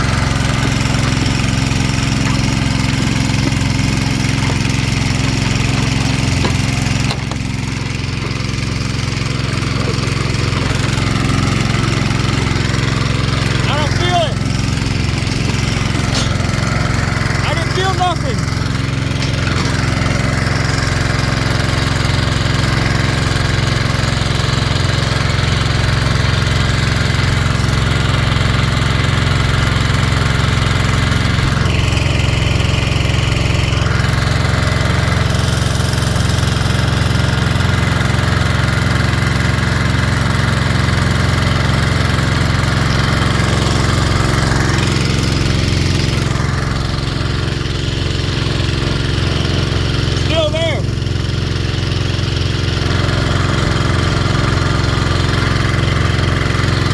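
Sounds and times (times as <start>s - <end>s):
small gasoline engine running: 0.0s - 56.9s.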